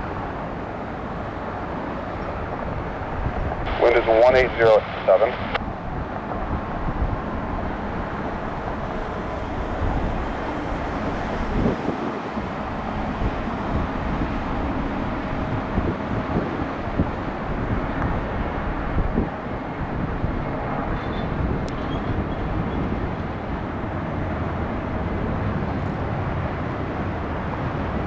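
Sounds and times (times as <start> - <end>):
distant jet engine rushing: 0.0 - 28.0
wind buffeting microphone: 0.0 - 28.0.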